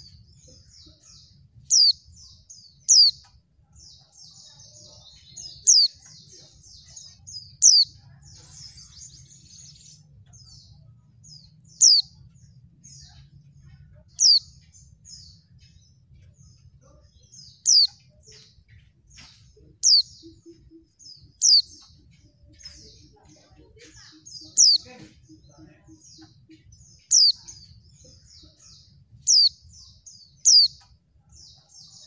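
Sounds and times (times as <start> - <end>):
soft twittering bird chirps: 0.0 - 32.0.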